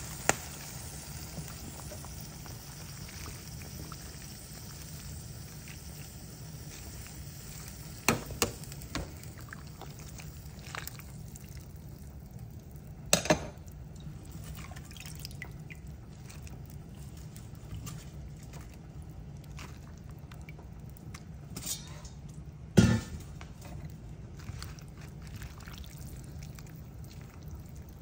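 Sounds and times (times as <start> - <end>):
broth sloshing and dripping: 0.0 - 22.4, 23.2 - 28.0
ladle stirring in pot: 1.3 - 28.0.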